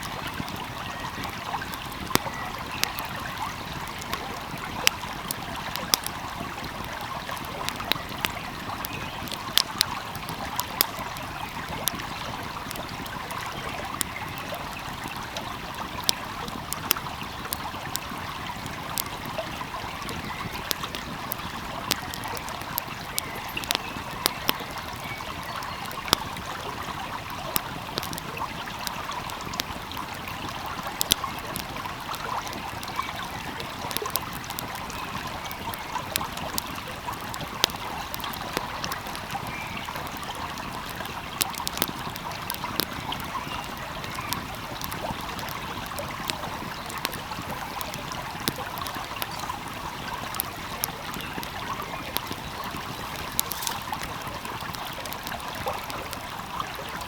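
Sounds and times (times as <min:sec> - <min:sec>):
stream flowing: 0:00.0 - 0:57.0
wood fire crackling: 0:00.0 - 0:57.0.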